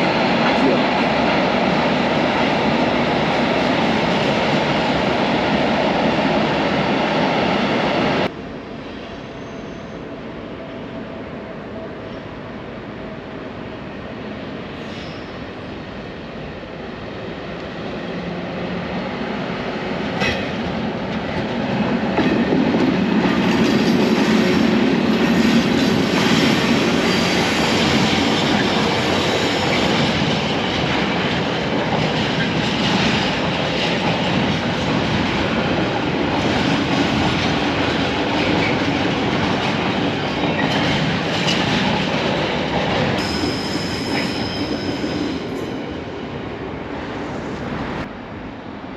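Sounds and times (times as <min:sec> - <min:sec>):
freight train running past: 0:00.0 - 0:48.9.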